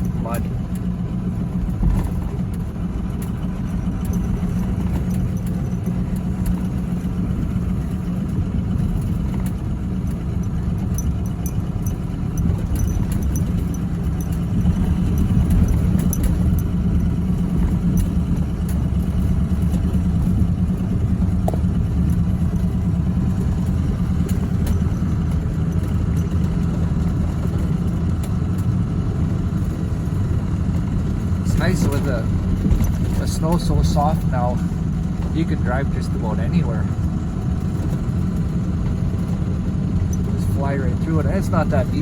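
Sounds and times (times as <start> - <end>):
light metallic ticking: 0.0 - 42.0
vehicle engine droning: 0.0 - 42.0.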